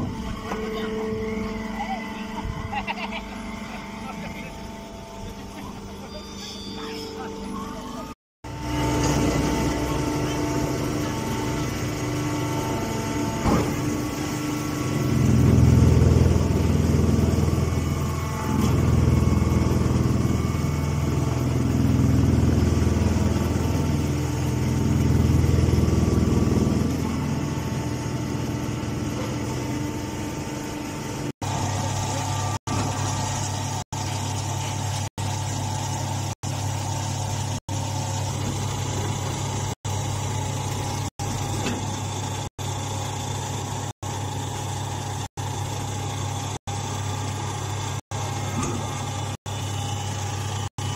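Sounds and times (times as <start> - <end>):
baling machinery running: 0.0 - 50.9.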